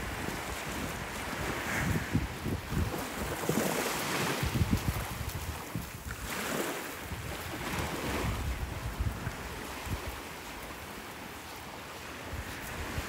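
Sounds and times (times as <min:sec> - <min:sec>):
small waves washing on sand: 0:00.0 - 0:13.0
wind gusting on microphone: 0:00.0 - 0:13.0.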